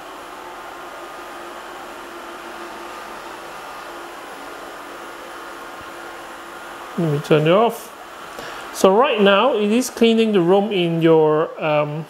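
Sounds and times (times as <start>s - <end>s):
robot vacuum suction whirr: 0.0s - 10.5s
faint steady hum: 0.0s - 12.0s.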